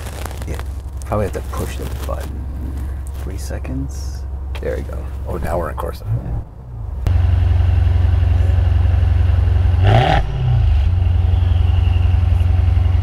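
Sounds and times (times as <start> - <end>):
car engine idling with rev blip: 0.1 - 13.0.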